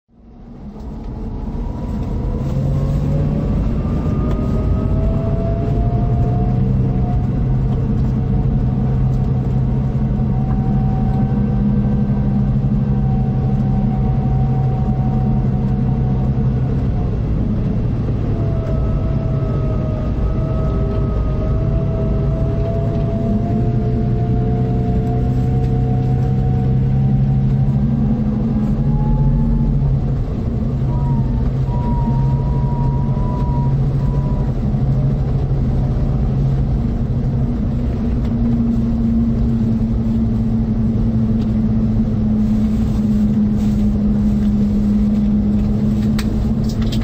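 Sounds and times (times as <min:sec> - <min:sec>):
diesel engine running under load: 0:00.1 - 0:47.0
high whine: 0:00.1 - 0:47.0.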